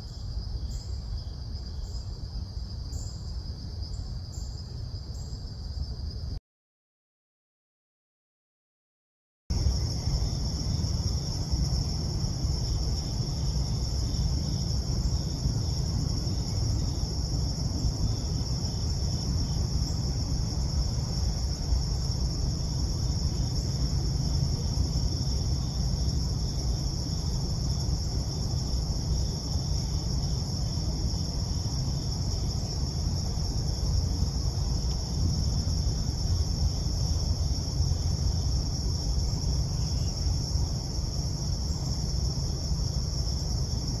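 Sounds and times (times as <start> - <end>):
crickets trilling: 0.0 - 6.4, 9.5 - 44.0.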